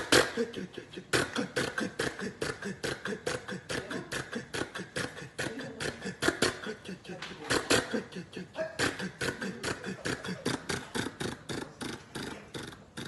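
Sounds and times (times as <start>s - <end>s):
vocal imitation of tractor engine: 0.0s - 13.0s.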